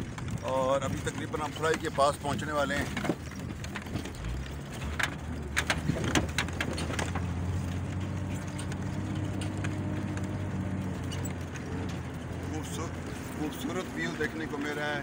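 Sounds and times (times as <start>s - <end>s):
knocks and rattles: 0.0s - 15.0s
truck engine running: 0.0s - 15.0s.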